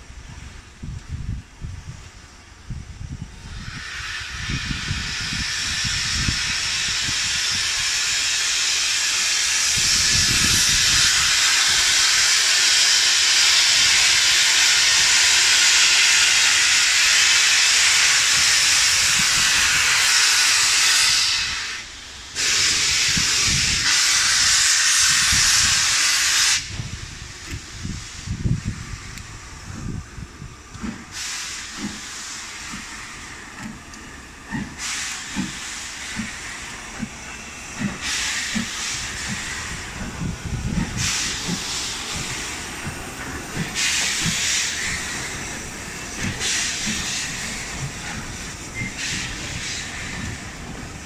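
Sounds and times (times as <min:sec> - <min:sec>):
steam locomotive hissing steam: 0:00.0 - 0:51.0.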